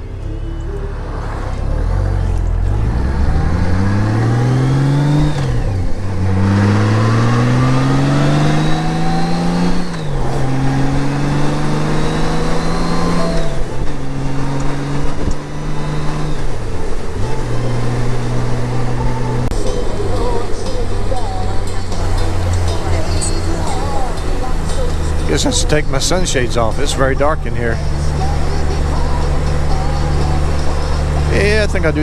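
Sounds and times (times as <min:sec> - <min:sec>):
motorcycle engine changing gears: 0:00.0 - 0:32.0.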